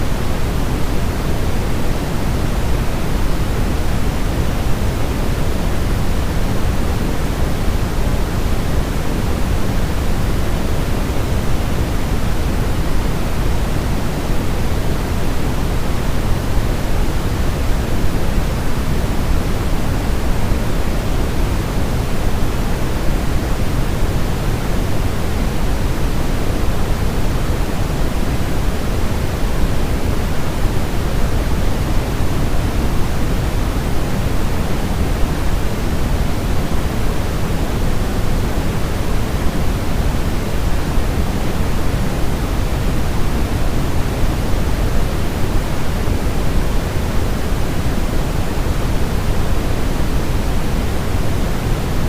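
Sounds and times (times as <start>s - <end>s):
deep white noise: 0.0s - 52.0s.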